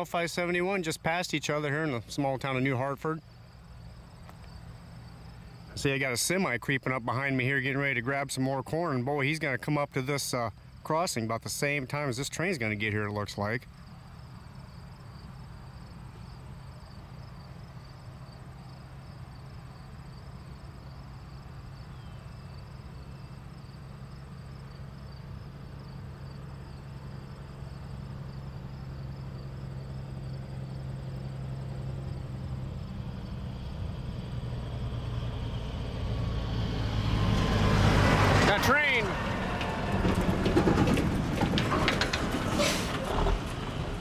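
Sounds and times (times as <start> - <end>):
diesel engine hum: 0.0 - 11.0, 11.7 - 44.0
crickets trilling: 0.0 - 38.4.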